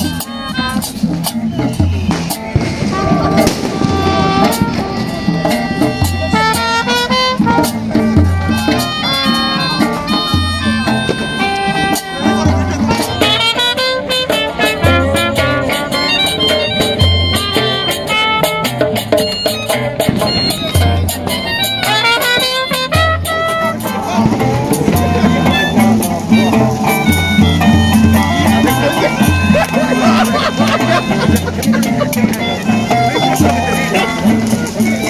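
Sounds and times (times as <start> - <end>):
djembe hand-drum beat: 0.0 - 35.0
melodica melody: 0.0 - 35.0
strummed acoustic guitar: 0.9 - 35.0.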